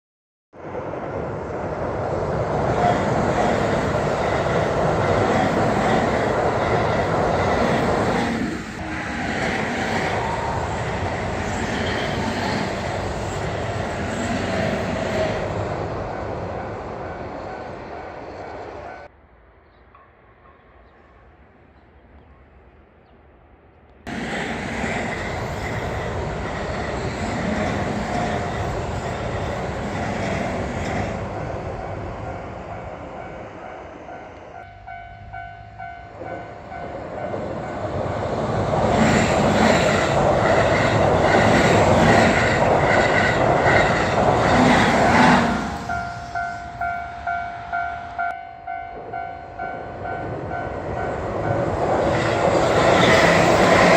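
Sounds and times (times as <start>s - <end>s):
electric train running on rails: 0.6s - 19.2s, 24.1s - 53.9s.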